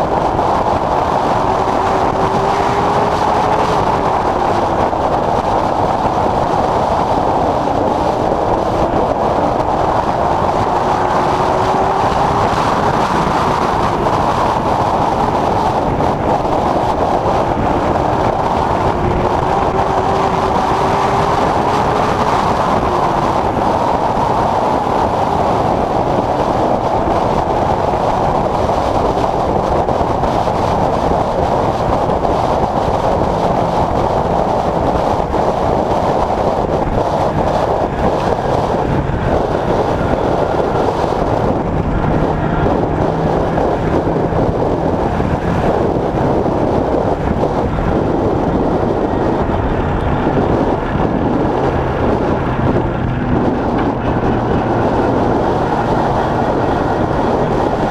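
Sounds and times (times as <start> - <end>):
race car engine running hard: 0.0 - 57.9
road and wind noise: 0.0 - 57.9.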